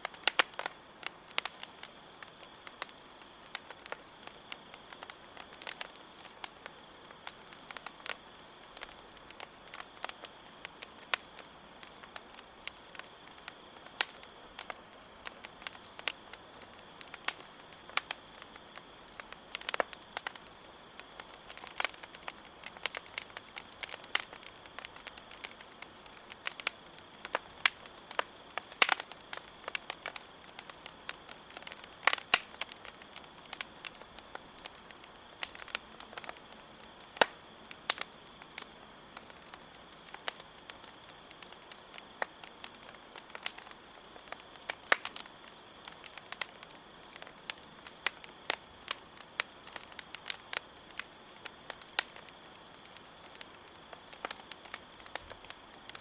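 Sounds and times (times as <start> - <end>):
campfire crackling and popping: 0.0 - 56.0
cricket trill: 0.0 - 56.0.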